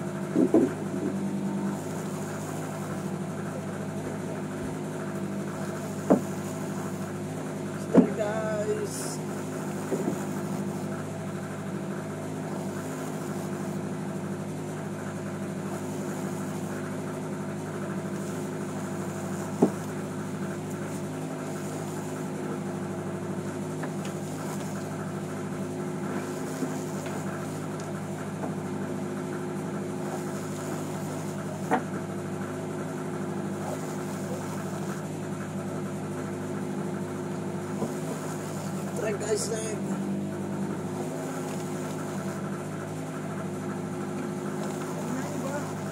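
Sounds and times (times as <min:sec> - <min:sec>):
boat engine droning: 0:00.0 - 0:45.9.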